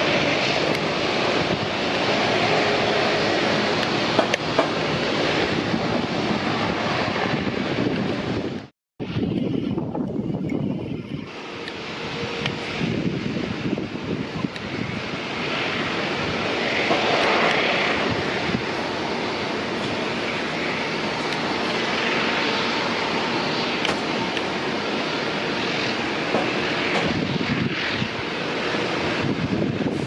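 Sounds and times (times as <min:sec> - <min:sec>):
airliner engines rushing: 0:00.0 - 0:30.0.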